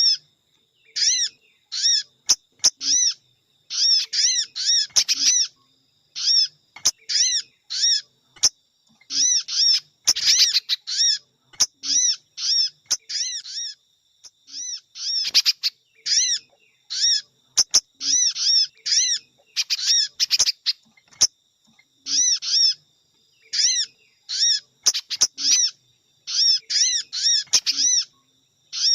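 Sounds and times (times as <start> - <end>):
high-pitched bird chirps: 0.0 - 13.8, 14.4 - 21.4, 22.0 - 28.9.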